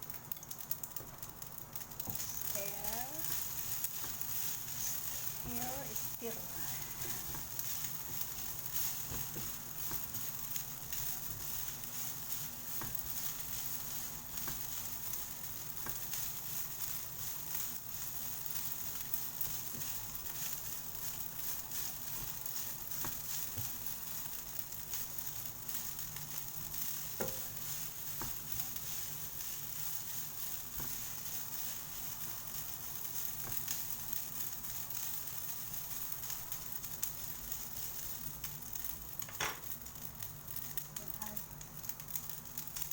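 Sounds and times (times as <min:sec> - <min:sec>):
rice sizzling in hot pan: 0:00.0 - 0:42.9.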